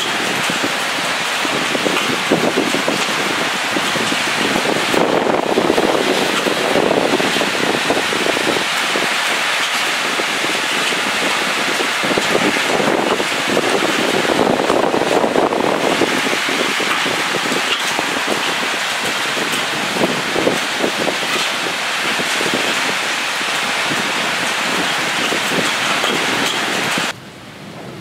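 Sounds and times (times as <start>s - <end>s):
gusting wind: 0.0s - 28.0s
heavy rain falling: 0.0s - 28.0s.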